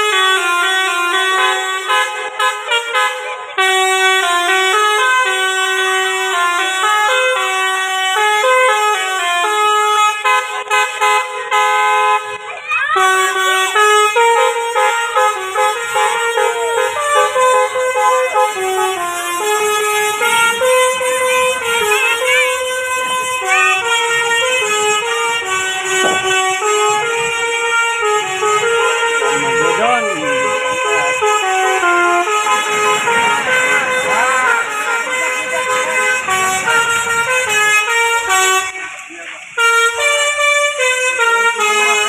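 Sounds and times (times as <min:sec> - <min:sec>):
multi-tone horn melody: 0:00.0 - 0:42.0.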